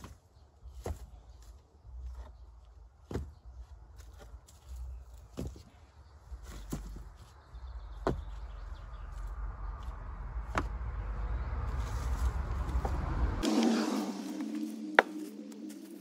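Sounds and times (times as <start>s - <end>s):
steady low rumble: 0.4s - 16.0s.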